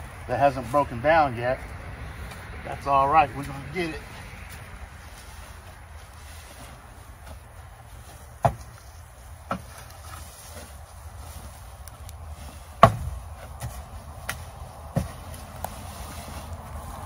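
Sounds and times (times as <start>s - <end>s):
rake scraping wood chips: 0.0s - 17.0s
rake tines knocking: 3.1s - 16.8s.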